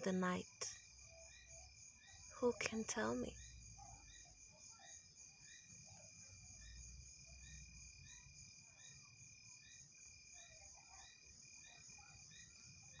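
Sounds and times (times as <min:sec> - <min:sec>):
night insects trilling and chirping: 0:00.0 - 0:13.0.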